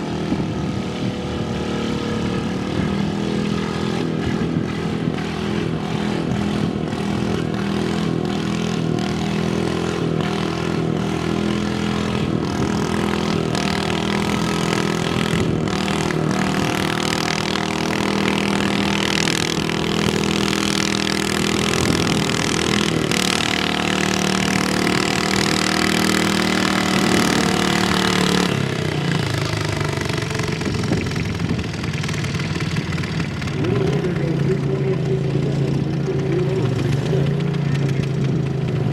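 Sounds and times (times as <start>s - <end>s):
tractor engine running hard: 0.0s - 38.9s.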